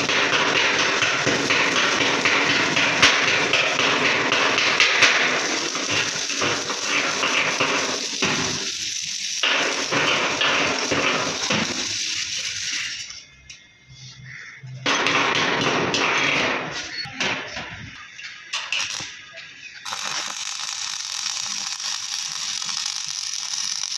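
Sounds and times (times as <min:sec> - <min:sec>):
welding arc crackling and hissing: 0:00.0 - 0:13.7, 0:14.3 - 0:23.9.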